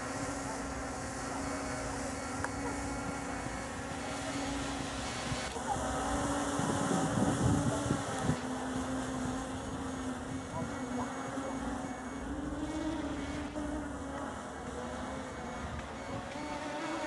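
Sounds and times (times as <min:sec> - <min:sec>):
quadcopter rotors buzzing: 0:00.0 - 0:17.0.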